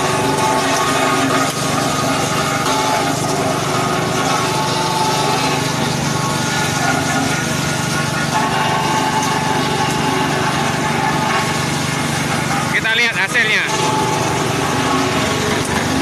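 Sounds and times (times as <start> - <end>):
forage chopper running: 0.0 - 16.0.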